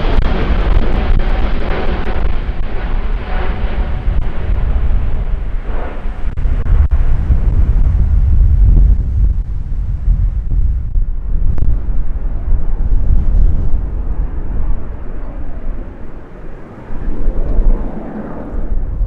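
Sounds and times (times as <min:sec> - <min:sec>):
jet airliner taking off: 0:00.0 - 0:19.0.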